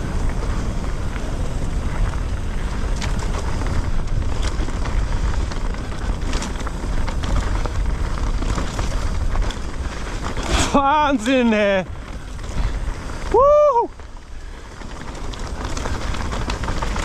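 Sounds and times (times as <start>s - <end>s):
bike clicks and rattles: 0.0s - 17.0s
tyres on rough trail: 0.0s - 17.0s
wind buffeting microphone: 0.0s - 17.0s.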